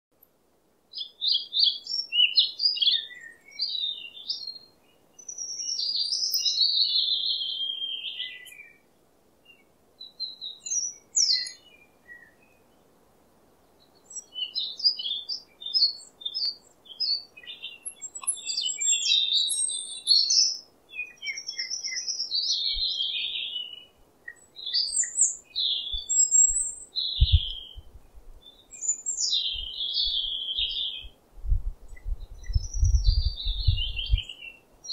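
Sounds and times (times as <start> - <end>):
songbirds chirping and trilling: 0.2 - 34.9.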